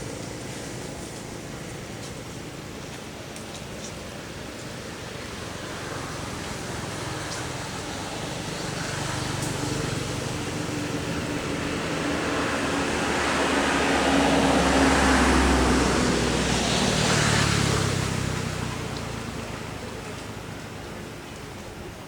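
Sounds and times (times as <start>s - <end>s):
motor vehicle passing: 3.8s - 22.0s.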